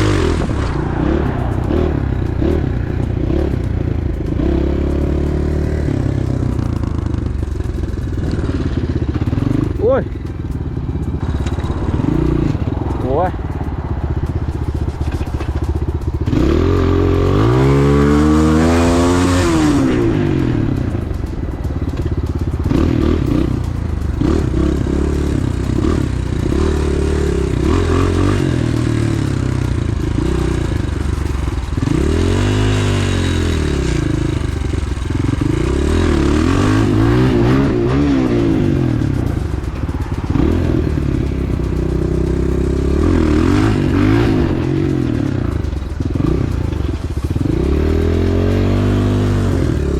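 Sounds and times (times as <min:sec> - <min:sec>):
pit bike engine revving: 0:00.0 - 0:49.9.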